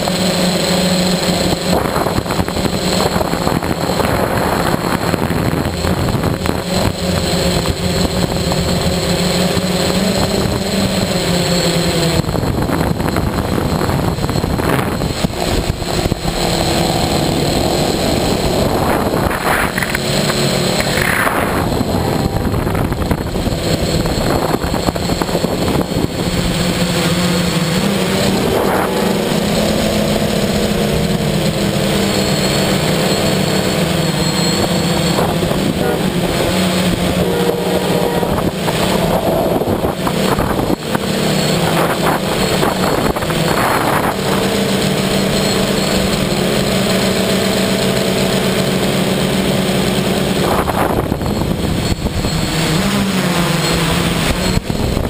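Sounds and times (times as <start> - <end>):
drone motors buzzing: 0.0 - 55.0
rushing noise: 0.0 - 55.0.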